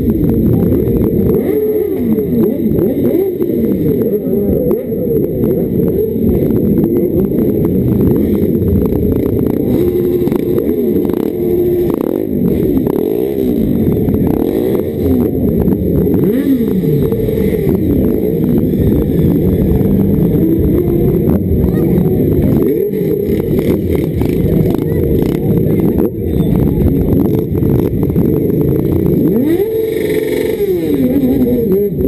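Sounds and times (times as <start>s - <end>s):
muffled motorcycle engines revving: 0.0s - 32.0s.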